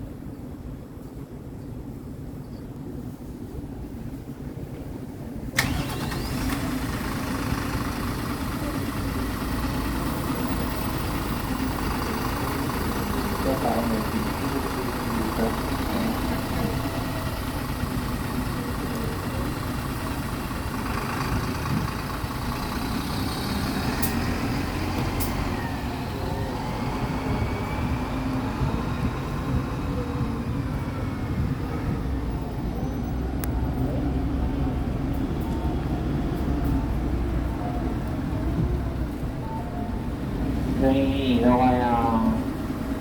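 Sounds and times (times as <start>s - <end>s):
bus diesel engine idling: 3.9s - 43.0s.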